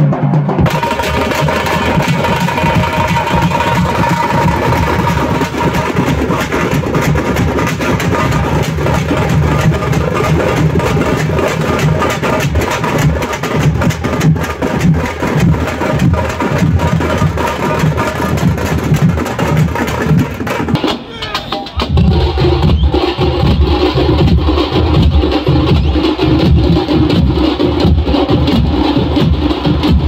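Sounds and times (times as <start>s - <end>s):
loud music with fast drums: 0.0s - 30.0s.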